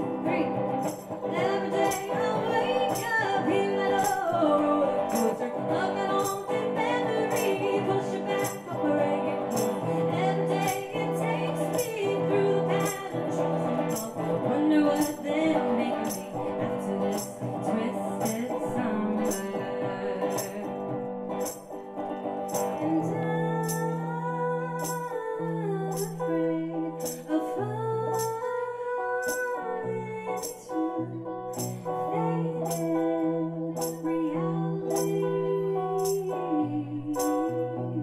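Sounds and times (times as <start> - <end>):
woman singing: 0.0 - 21.6, 22.5 - 38.0
electric guitar: 0.0 - 38.0.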